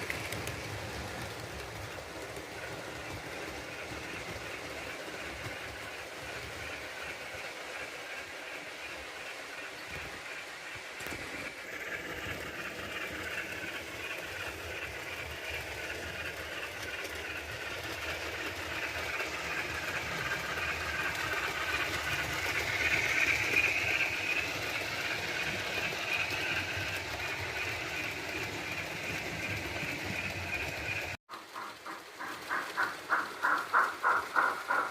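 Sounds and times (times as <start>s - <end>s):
model steam locomotive running: 0.0s - 34.9s
wheels on track: 0.0s - 34.9s.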